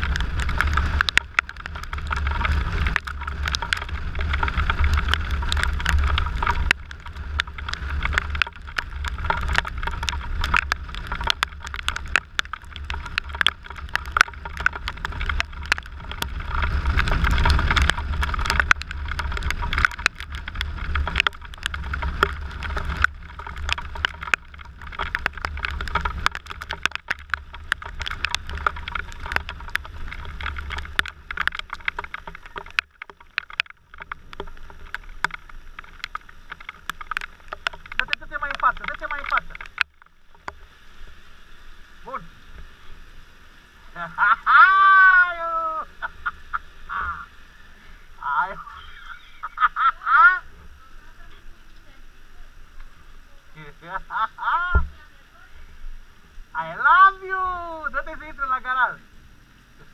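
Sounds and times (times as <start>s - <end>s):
raindrops ticking on camera: 0.0s - 59.9s
wind rumbling on microphone: 0.0s - 59.9s.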